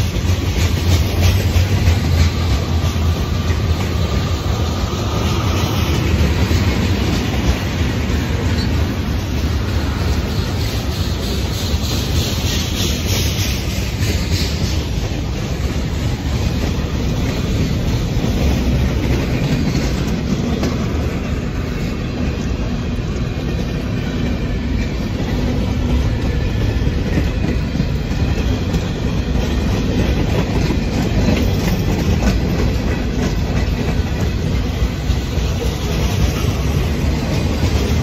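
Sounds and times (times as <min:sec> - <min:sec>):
freight train wheels rumbling: 0:00.0 - 0:38.0
wheels clicking over rail joints: 0:00.0 - 0:38.0.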